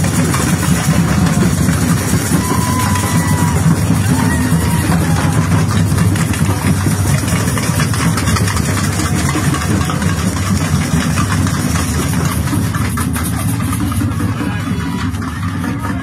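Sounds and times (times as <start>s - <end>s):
percussion band drumming: 0.0s - 16.0s.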